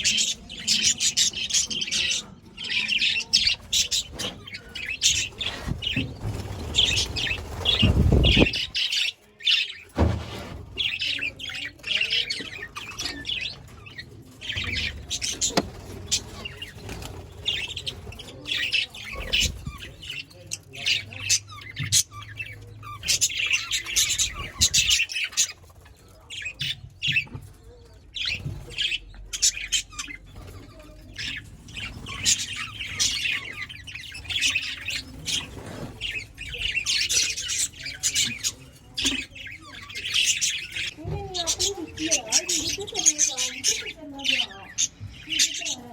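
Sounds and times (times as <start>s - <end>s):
budgerigars chirping and chattering: 0.0s - 45.9s.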